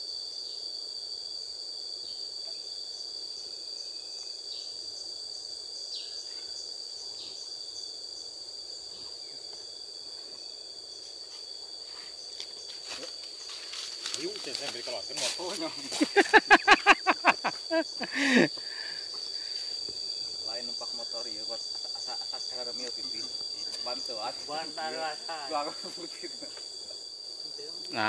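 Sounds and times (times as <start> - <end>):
insect drone high-pitched tone: 0.0 - 28.0.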